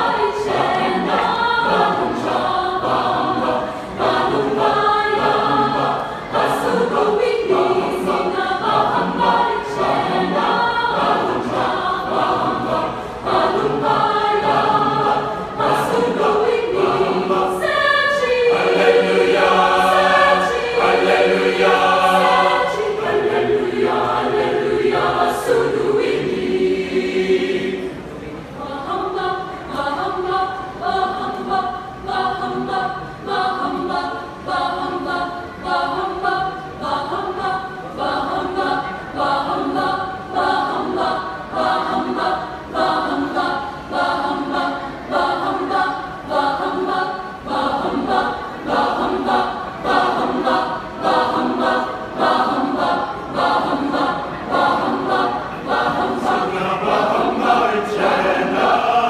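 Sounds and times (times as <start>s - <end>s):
choir singing a cappella: 0.0s - 59.0s.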